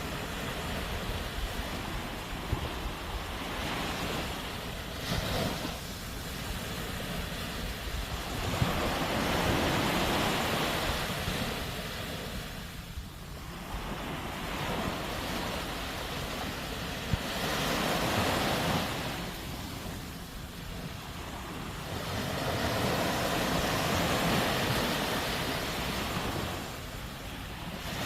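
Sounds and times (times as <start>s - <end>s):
sea waves breaking on shore: 0.0s - 28.0s.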